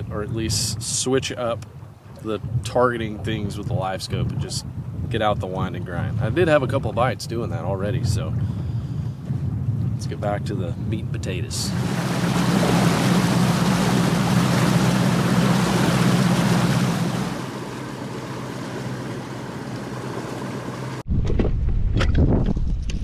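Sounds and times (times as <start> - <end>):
wind buffeting microphone: 0.0 - 20.0
outboard motor hum: 0.0 - 21.0
wind and water rushing: 0.0 - 21.0.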